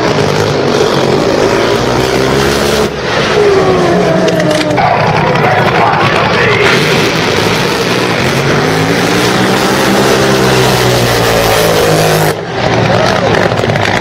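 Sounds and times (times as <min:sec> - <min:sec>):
powerboat engine racing: 0:00.0 - 0:14.0.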